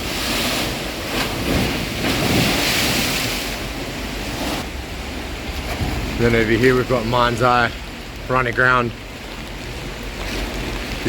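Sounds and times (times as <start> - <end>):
waves slapping and washing: 0.0 - 11.0
wind buffeting microphone: 0.0 - 11.0.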